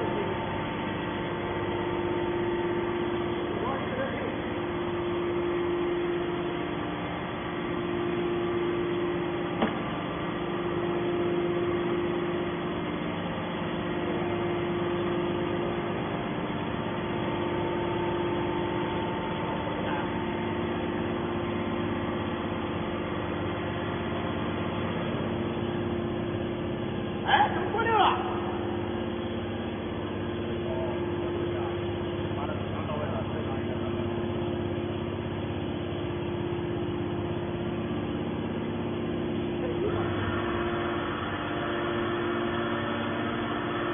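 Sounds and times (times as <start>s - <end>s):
hydraulic pump motor humming: 0.0s - 43.9s.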